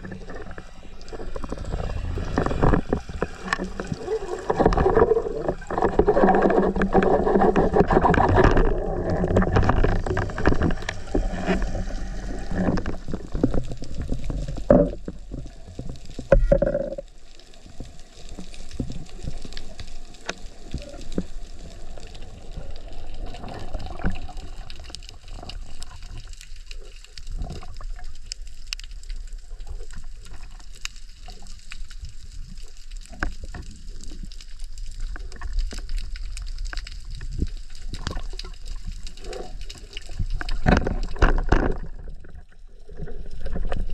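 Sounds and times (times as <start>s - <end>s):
faint crackling clicks: 0.0s - 43.9s
underwater rush of water: 0.0s - 43.9s.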